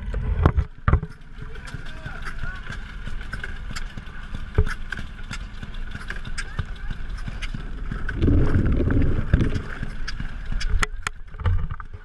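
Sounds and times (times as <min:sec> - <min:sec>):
small gasoline engine running: 0:01.0 - 0:11.6.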